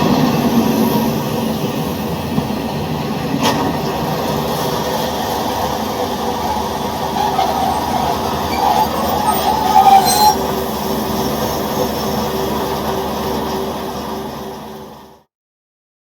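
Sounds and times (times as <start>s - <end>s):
train rumbling on rails: 0.0s - 15.2s.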